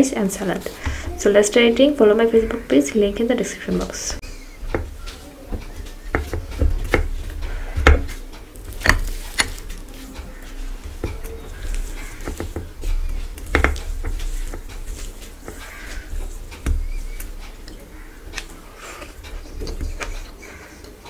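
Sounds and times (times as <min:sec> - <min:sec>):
fingers mixing food on a plate: 0:00.3 - 0:21.0
fingers tapping plates: 0:03.6 - 0:21.0.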